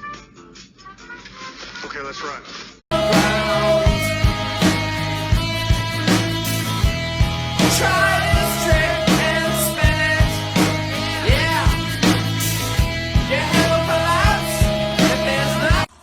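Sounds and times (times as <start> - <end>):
rock music with drums and guitar: 2.9 - 16.0.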